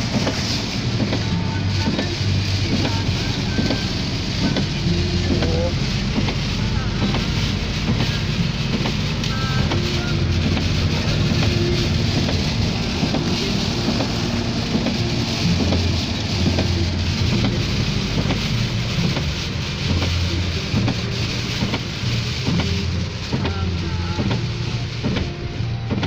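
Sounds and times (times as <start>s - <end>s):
heavy rain pattering: 0.0s - 26.0s
steady low rumble: 0.0s - 26.0s.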